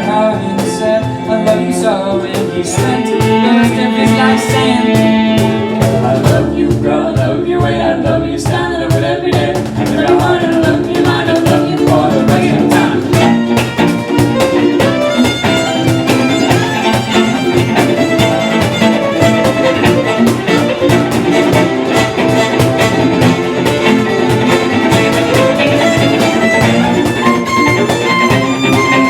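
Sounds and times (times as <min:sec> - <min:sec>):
fiddle melody: 0:00.0 - 0:29.0
steady beat: 0:00.0 - 0:29.0
strummed guitar: 0:00.0 - 0:29.0.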